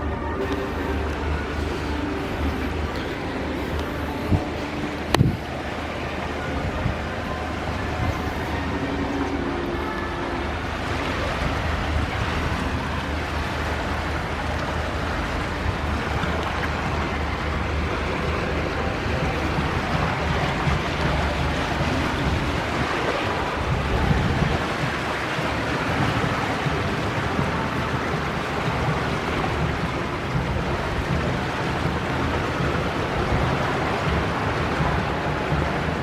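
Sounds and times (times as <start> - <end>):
low rumble: 0.0 - 36.0
river current rushing: 0.0 - 36.0.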